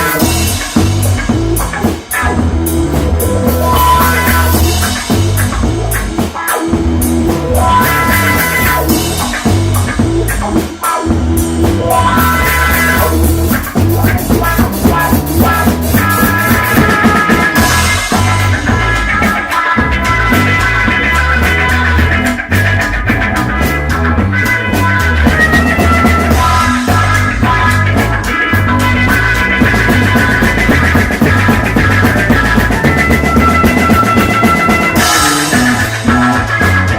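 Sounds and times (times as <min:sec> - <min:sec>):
funk rock band playing: 0:00.0 - 0:36.9.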